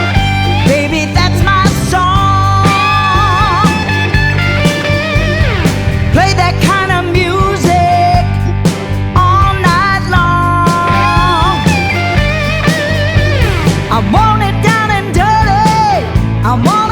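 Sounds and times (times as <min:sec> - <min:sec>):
bass line: 0:00.0 - 0:16.9
drums: 0:00.0 - 0:16.9
lead electric guitar: 0:00.0 - 0:16.9.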